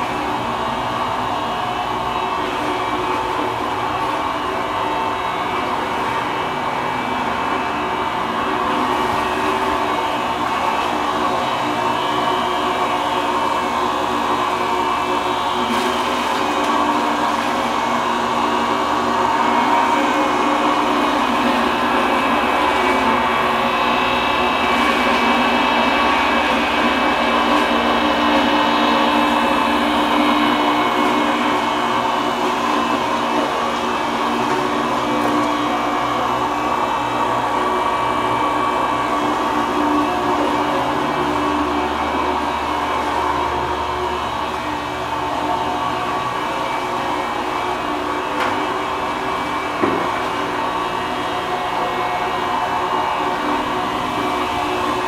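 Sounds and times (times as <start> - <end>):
electric fish grinder running: 0.0 - 55.0.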